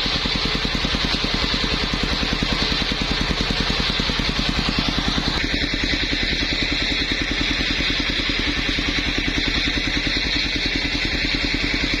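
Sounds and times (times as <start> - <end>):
small engine pulsing: 0.0 - 12.0.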